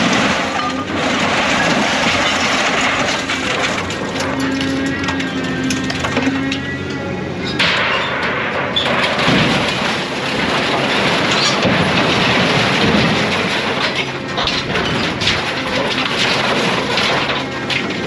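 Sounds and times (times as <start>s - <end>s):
heavy machine rumbling: 0.0s - 18.0s
scrap metal crashing into trailer: 0.0s - 18.0s.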